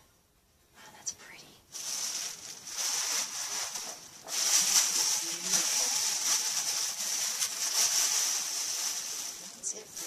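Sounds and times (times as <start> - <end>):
packing material rustling: 1.7 - 10.0.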